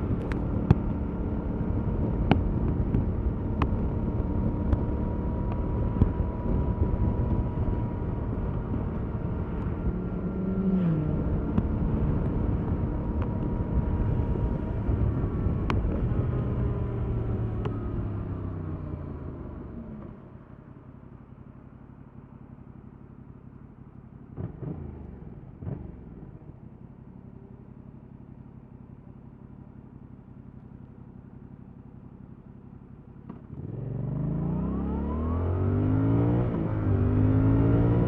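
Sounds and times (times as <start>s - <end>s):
motorcycle engine running: 0.0s - 35.0s
road and wind noise: 0.0s - 38.0s.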